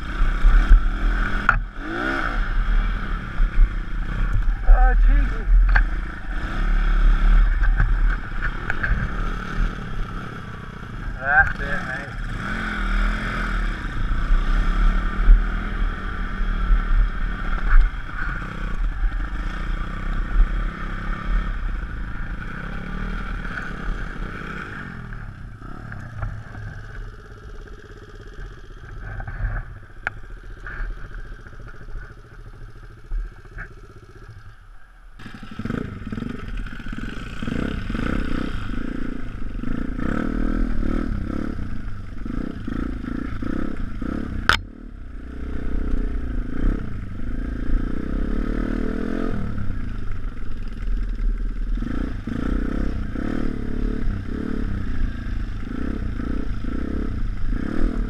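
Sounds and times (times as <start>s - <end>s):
motorbike engine revving: 0.0s - 34.6s, 35.2s - 58.0s.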